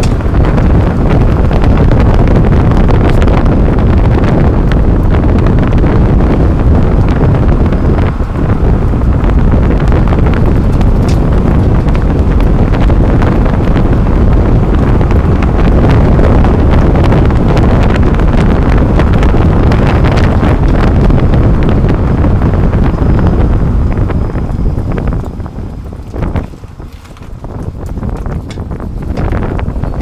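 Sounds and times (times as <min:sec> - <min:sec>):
tyres rumbling on road: 0:00.0 - 0:30.0
wind buffeting microphone: 0:00.0 - 0:30.0.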